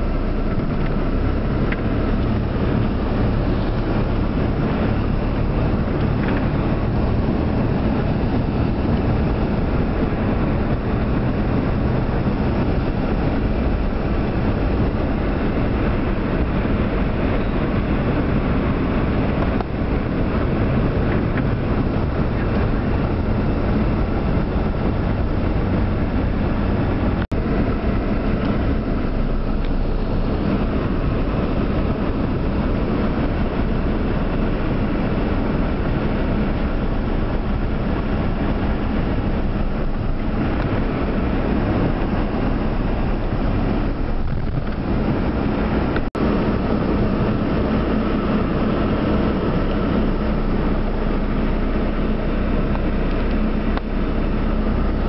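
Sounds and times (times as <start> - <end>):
car engine running: 0.0 - 55.0
tyres driving through floodwater: 0.0 - 55.0.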